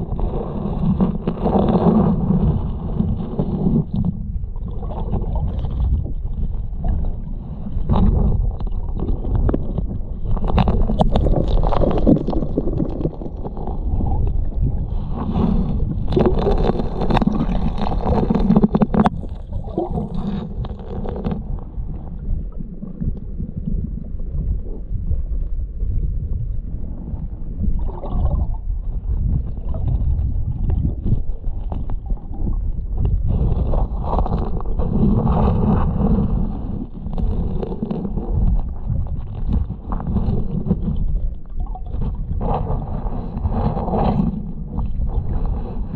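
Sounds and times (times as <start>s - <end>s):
muffled underwater river current: 0.0s - 45.9s.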